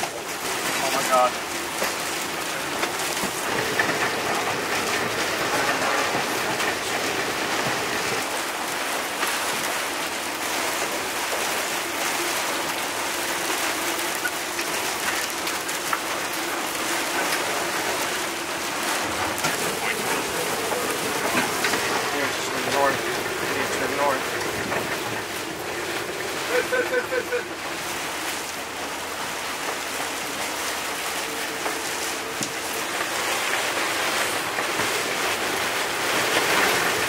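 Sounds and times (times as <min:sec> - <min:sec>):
heavy rain and wind hissing: 0:00.0 - 0:37.0.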